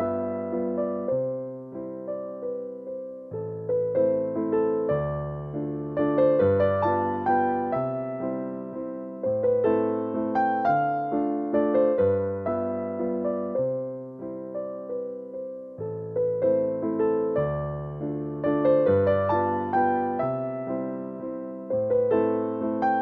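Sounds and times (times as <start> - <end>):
gentle keyboard tune: 0.0 - 23.0.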